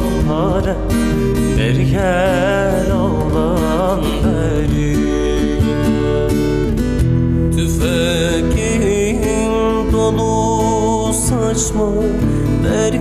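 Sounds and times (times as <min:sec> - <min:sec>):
man singing: 0:00.0 - 0:06.8, 0:07.5 - 0:13.0
strummed acoustic guitar: 0:00.0 - 0:13.0.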